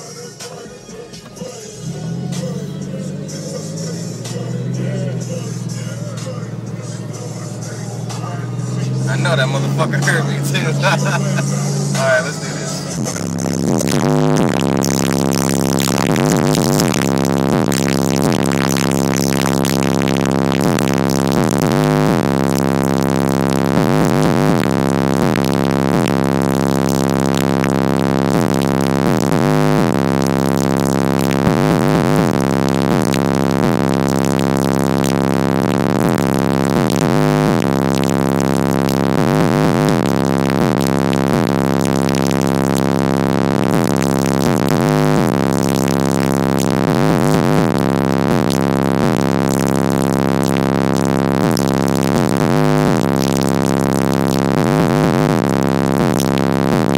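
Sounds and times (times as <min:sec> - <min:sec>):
bass-heavy music from car stereo: 0:00.0 - 0:56.9.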